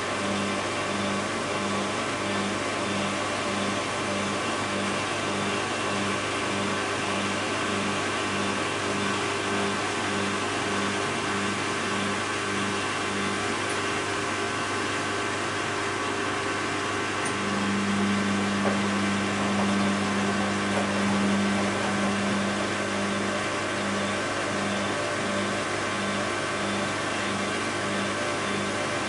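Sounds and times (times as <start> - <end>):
pulsing motor hum: 0.0 - 29.0
washing machine running: 0.0 - 29.0.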